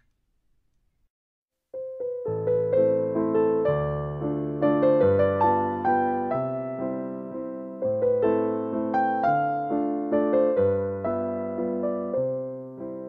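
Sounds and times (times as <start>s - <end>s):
gentle piano tune: 1.8s - 13.0s.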